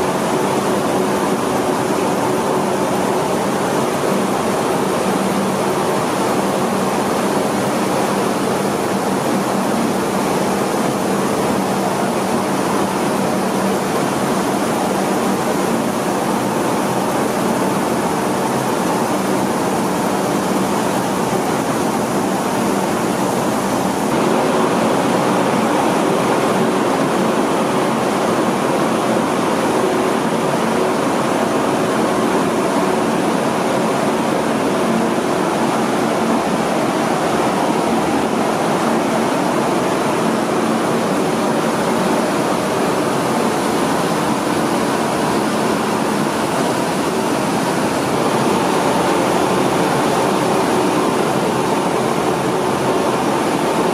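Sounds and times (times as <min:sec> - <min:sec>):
rice milling machines running: 0:00.0 - 0:53.9.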